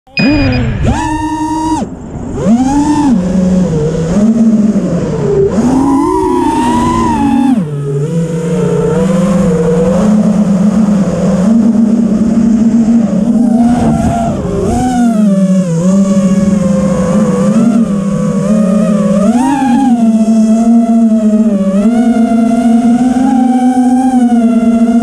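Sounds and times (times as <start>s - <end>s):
quadcopter motors whining: 0.1s - 25.0s.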